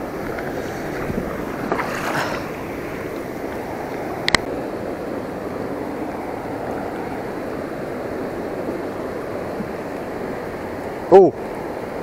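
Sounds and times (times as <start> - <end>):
river current rushing: 0.0 - 12.0
wind: 0.0 - 12.0.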